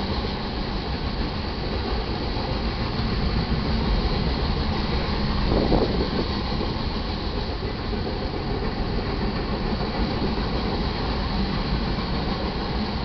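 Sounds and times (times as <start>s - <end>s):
ore cars rumbling on rails: 0.0s - 13.0s.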